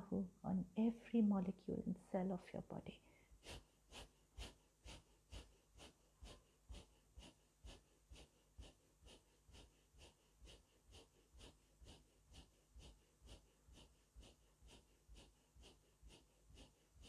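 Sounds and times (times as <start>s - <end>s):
rhythmic forceful nose breathing: 3.0s - 17.0s.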